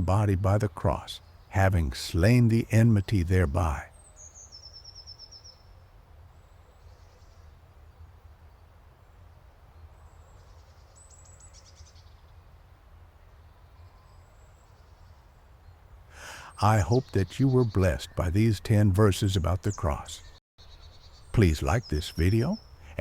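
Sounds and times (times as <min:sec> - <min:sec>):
birds chirping: 0:00.0 - 0:12.4, 0:13.3 - 0:23.0.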